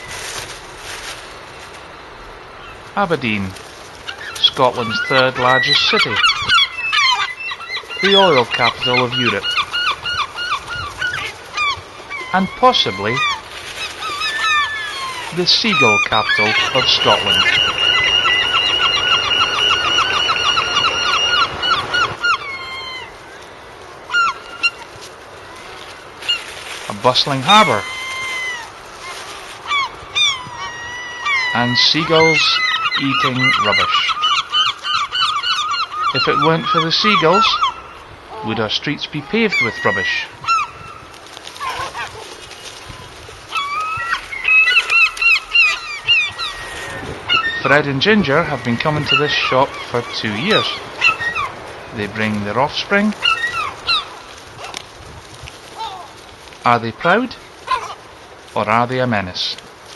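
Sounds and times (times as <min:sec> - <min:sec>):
gull calling: 0:02.5 - 0:59.7.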